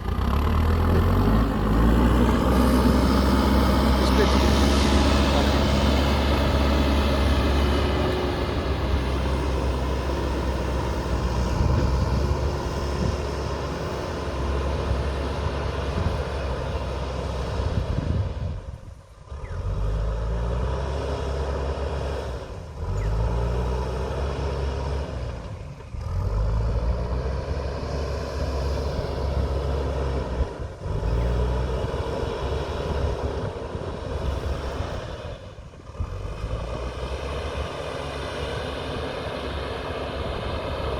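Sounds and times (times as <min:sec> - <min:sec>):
diesel engine revving under load: 0:00.0 - 0:40.9.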